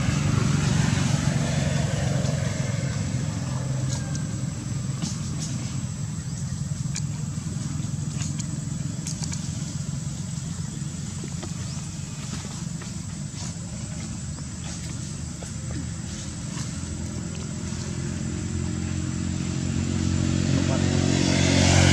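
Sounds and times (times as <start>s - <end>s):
vehicle engine rumble: 0.0s - 21.9s.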